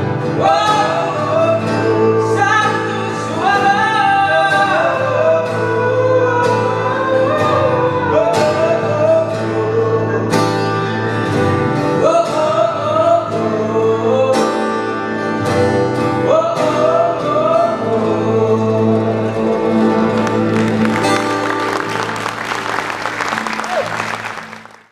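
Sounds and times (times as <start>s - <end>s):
man singing: 0.0s - 15.4s, 16.0s - 21.0s
acoustic guitars strumming: 0.0s - 24.9s.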